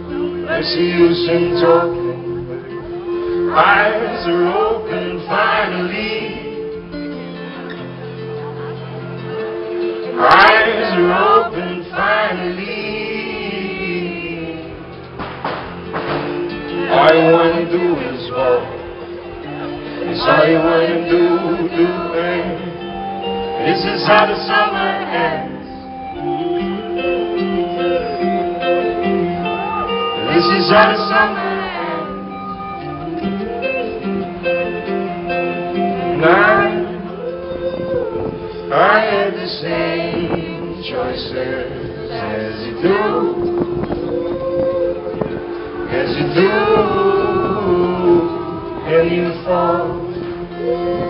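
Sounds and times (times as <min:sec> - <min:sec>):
live band with singing: 0:00.0 - 0:51.0.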